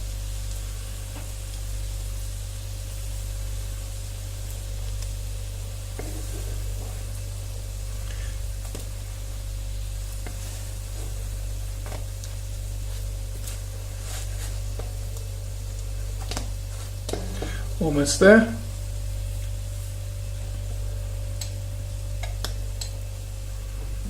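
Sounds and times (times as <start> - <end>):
bread frying in oil: 0.0 - 24.0
steady low hum: 0.0 - 24.0.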